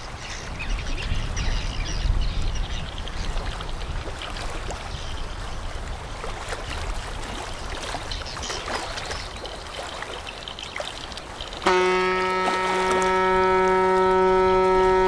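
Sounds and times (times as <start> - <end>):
water lapping against bank: 0.0 - 15.0.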